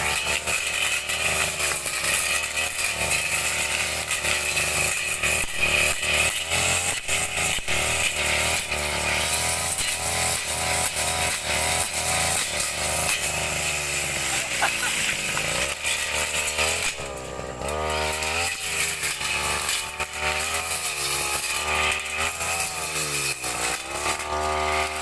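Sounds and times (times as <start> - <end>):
brush cutter engine running: 0.0 - 25.0.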